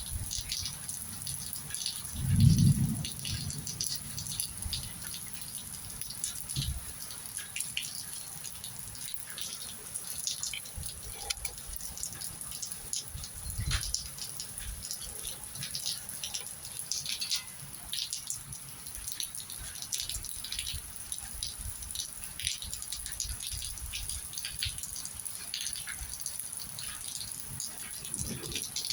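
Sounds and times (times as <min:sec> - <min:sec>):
ticks and drips on surfaces: 0:00.0 - 0:28.9.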